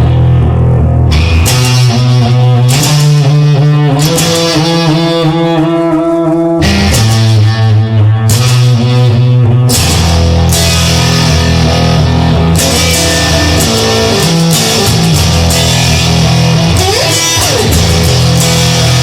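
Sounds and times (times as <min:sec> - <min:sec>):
electric guitar playing: 0:00.0 - 0:19.0
low sustained bass notes: 0:00.0 - 0:19.0.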